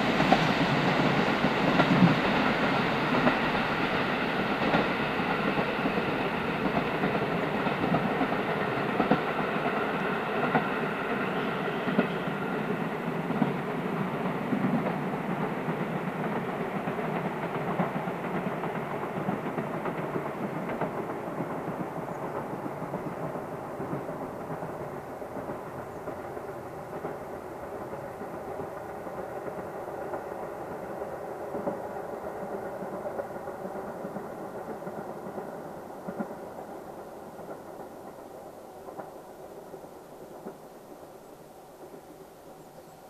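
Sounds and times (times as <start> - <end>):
diesel train wheels rumbling: 0.0 - 43.0.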